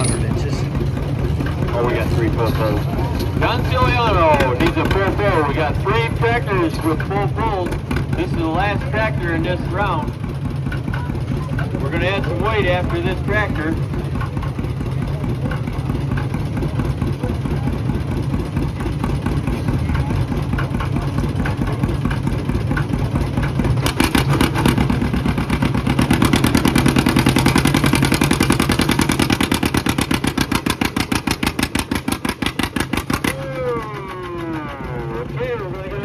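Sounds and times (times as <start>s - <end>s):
tractor engine running hard: 0.0s - 36.0s.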